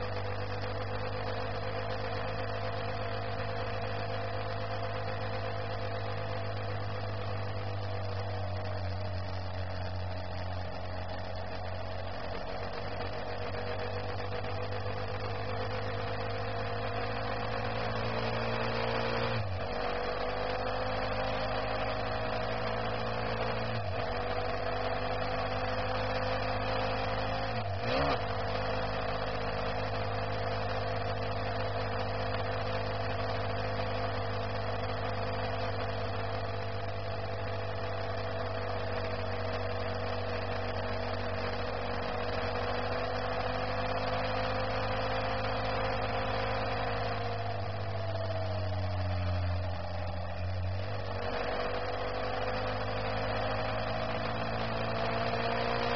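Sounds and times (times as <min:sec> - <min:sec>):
car engine inside cabin: 0:00.0 - 0:55.9
road noise: 0:00.0 - 0:55.9.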